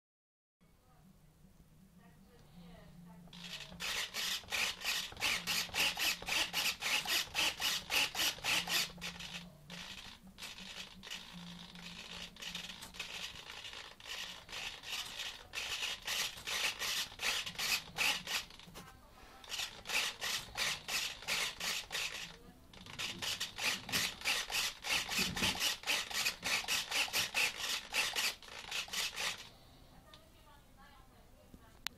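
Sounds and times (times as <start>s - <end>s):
servos whirring: 3.3s - 18.7s, 19.4s - 29.6s.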